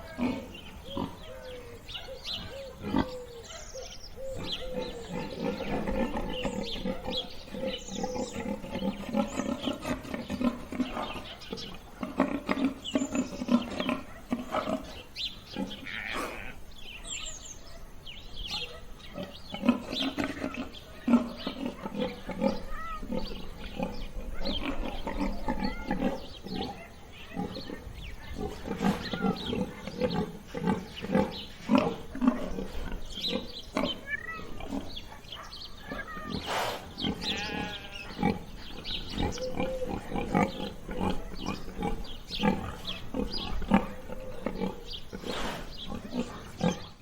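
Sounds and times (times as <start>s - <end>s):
pigs grunting and oinking: 0.0s - 17.2s, 18.4s - 47.0s.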